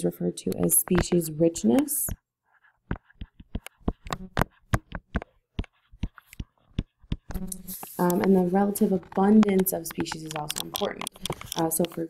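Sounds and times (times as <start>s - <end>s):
stylus tapping on tablet: 0.5s - 2.2s, 2.8s - 12.0s.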